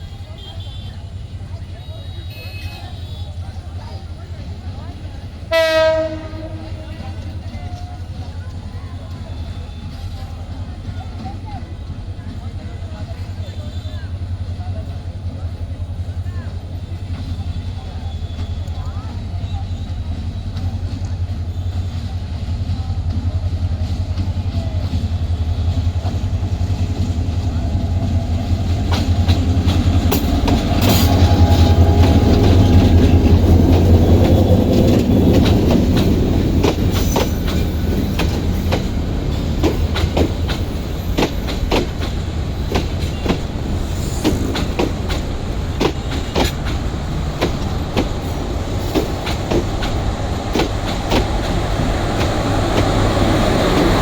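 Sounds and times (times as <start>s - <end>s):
locomotive hum: 0.0s - 54.0s
wheels clacking over rail joints: 4.4s - 54.0s.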